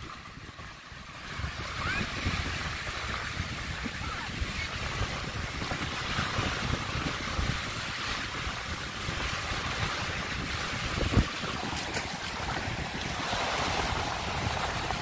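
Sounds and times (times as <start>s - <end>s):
small waves breaking on shore: 0.0s - 15.0s
wind buffeting microphone: 0.0s - 15.0s.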